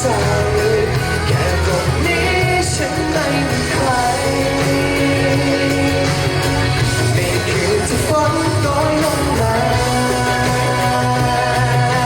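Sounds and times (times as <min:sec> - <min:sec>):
live pop rock band: 0:00.0 - 0:12.0.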